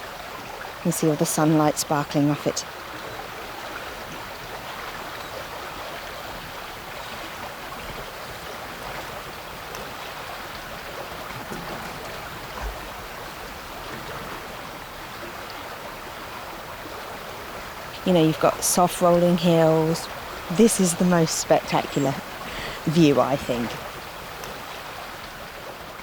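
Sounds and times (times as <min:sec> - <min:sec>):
stream water babbling: 0:00.0 - 0:26.0.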